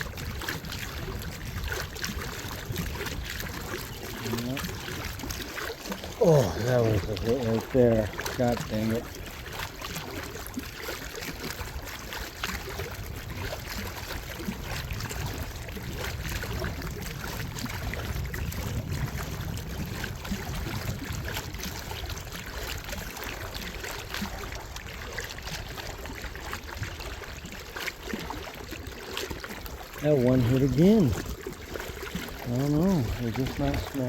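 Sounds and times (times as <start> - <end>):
small splashes: 0.0 - 34.0
water sloshing around a boat: 0.0 - 34.0.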